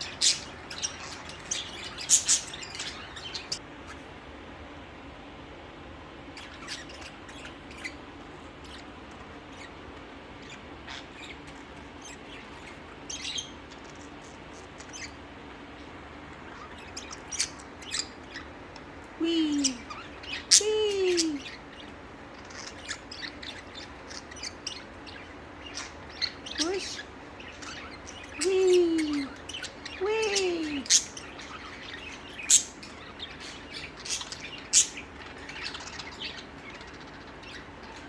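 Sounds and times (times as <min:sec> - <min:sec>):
budgerigars chirping: 0:00.0 - 0:04.0, 0:06.4 - 0:09.8, 0:10.4 - 0:19.0, 0:19.6 - 0:38.0.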